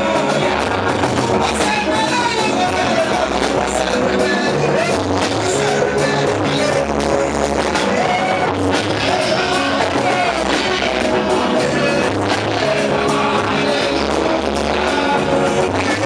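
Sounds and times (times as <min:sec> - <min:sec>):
music with bass guitar and singing: 0:00.0 - 0:16.0.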